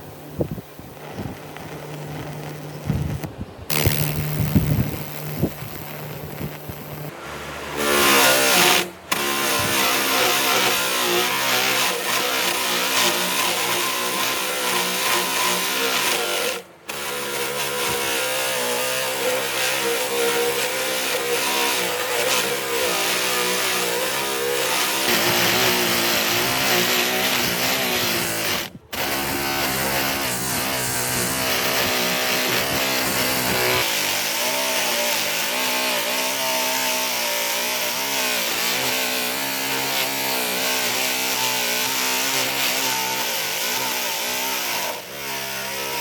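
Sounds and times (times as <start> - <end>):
power tool motor spinning: 0.0 - 46.0.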